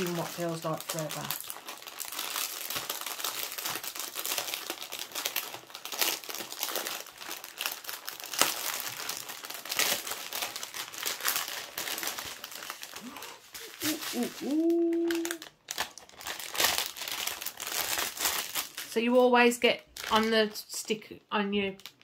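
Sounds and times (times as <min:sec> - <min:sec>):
plastic bag crinkling: 0:00.0 - 0:21.0, 0:21.6 - 0:22.0.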